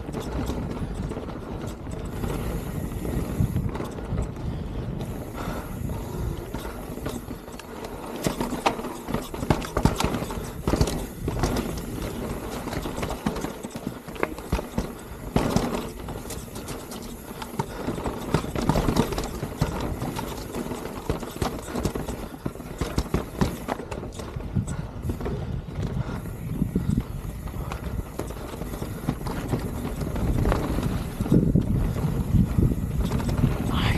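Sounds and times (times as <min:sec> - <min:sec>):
bike chain and frame clattering: 0:00.0 - 0:33.9
bike tyres rumbling: 0:00.0 - 0:33.9.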